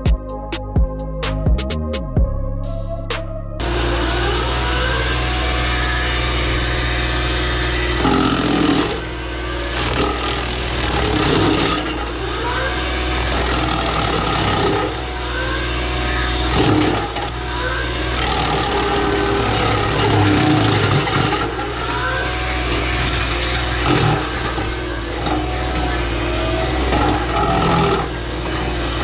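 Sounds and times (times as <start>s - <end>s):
diesel engine running: 3.6s - 29.0s.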